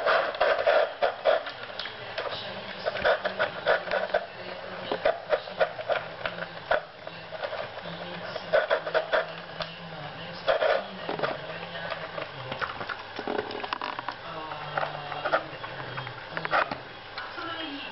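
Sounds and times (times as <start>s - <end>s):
dog crunching kibble: 0.0s - 16.8s.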